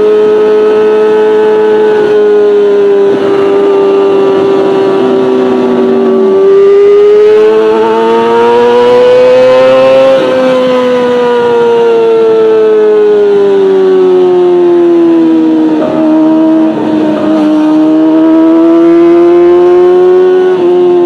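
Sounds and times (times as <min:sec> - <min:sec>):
motorcycle engine at high revs: 0:00.0 - 0:21.0.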